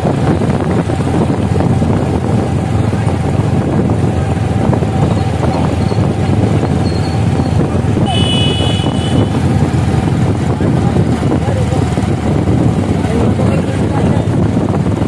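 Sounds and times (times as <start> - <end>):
vehicle engine running: 0.0 - 15.0
wind rumble on microphone: 0.0 - 15.0.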